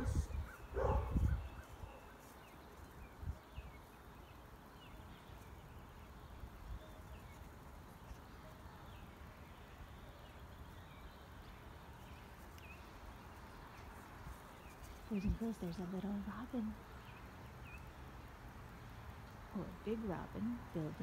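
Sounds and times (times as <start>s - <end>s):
bird chirping: 0.0s - 21.0s
low wind-like rumble: 0.0s - 21.0s.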